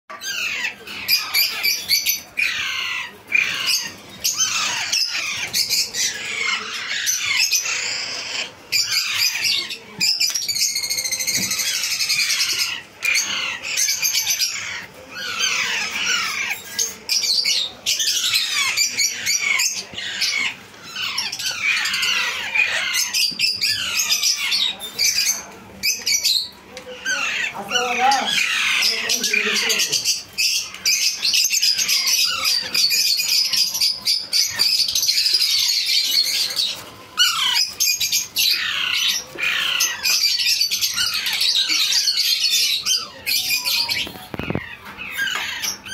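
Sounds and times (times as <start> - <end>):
parakeet chicks squawking: 0.1 - 45.9.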